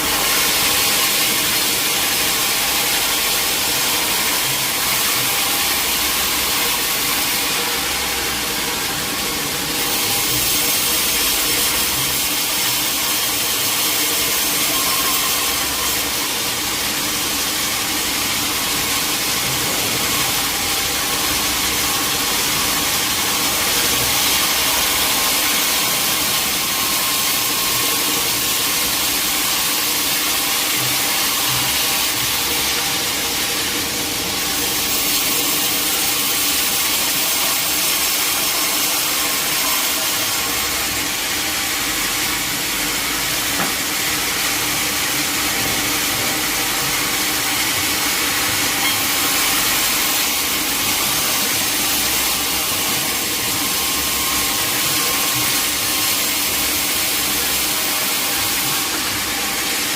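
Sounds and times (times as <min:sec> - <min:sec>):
sawmill machinery hissing: 0:00.0 - 0:59.9.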